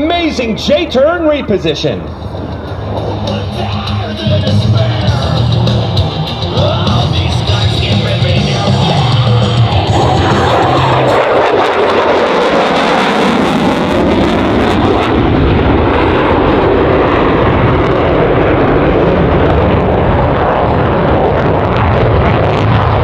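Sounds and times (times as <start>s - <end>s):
fighter jet roar: 0.0s - 23.0s.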